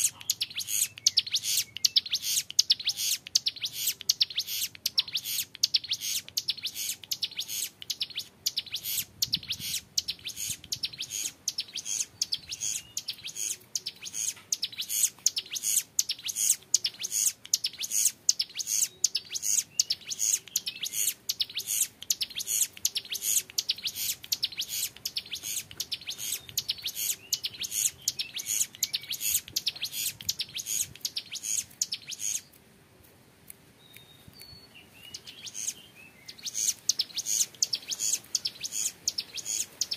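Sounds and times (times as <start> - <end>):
bird rapid high chattering song: 0.0 - 32.5, 35.0 - 39.9.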